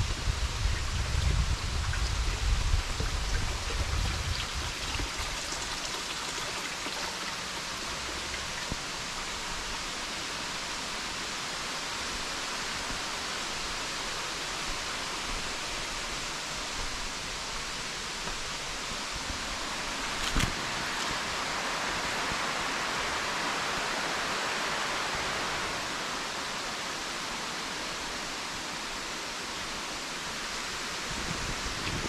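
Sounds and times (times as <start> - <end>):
rushing flowing water: 0.0 - 32.0.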